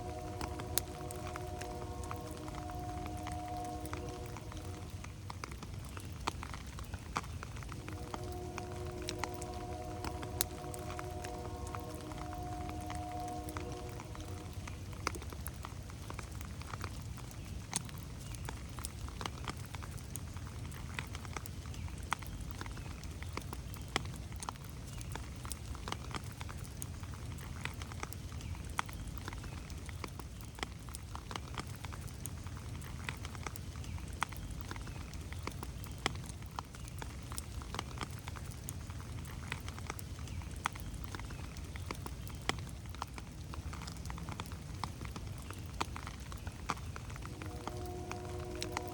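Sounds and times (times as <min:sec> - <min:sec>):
raindrops ticking close by: 0:00.0 - 0:48.9
steady rain in forest: 0:00.0 - 0:48.9.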